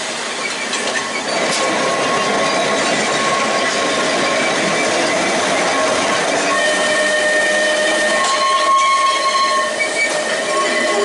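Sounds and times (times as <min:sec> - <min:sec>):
train wheels rumbling on rails: 0:00.0 - 0:11.0
wheels squealing: 0:00.3 - 0:11.0.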